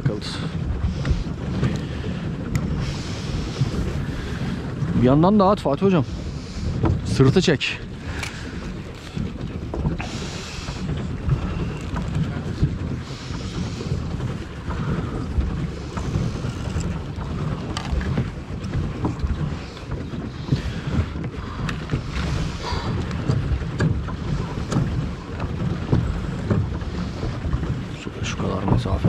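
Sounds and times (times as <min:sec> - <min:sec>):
water sloshing against boat: 0:00.0 - 0:29.0
wind buffeting microphone: 0:00.0 - 0:29.0.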